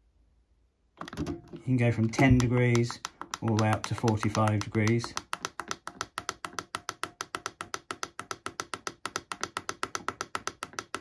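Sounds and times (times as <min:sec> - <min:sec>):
controller ticking rapidly: 0:01.0 - 0:11.0.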